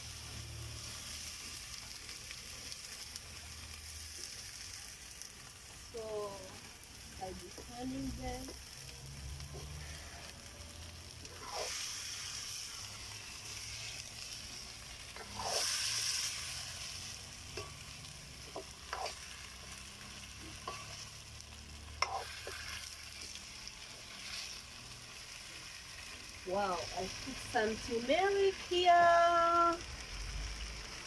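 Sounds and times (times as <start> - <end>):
food sizzling in a pot: 0.0 - 31.0.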